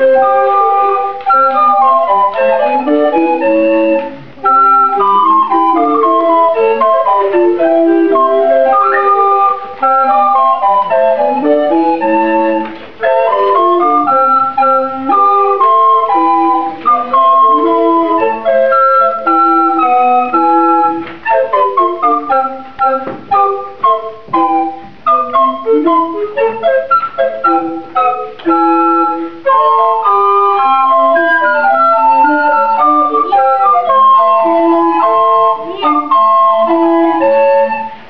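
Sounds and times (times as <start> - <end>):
recorder ensemble playing: 0.0 - 38.0.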